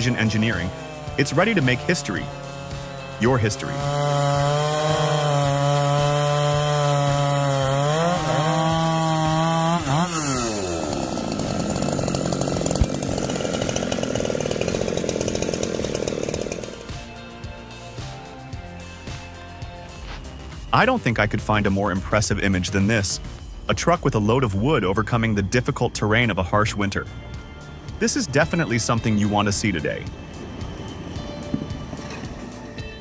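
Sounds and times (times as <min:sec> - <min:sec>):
chainsaw cutting wood: 0:00.0 - 0:23.4, 0:27.0 - 0:33.0.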